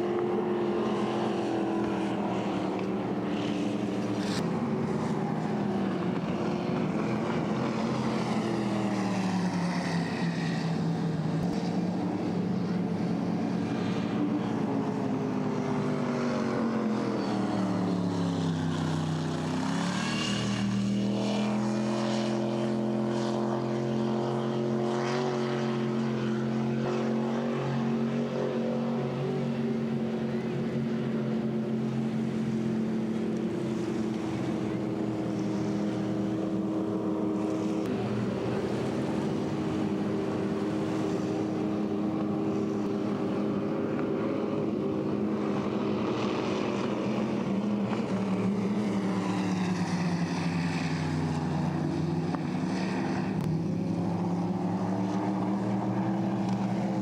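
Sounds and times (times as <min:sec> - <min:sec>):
race boat engines running hard: 0:00.0 - 0:57.0.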